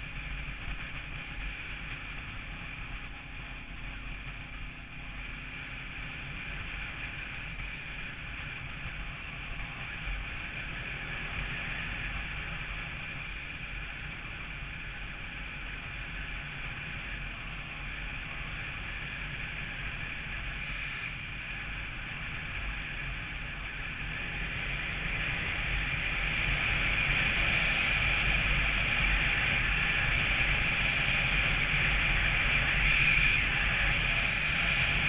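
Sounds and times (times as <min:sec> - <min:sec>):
engine and tyres rumbling: 0:00.0 - 0:35.0
wind rushing over microphone: 0:00.0 - 0:35.0.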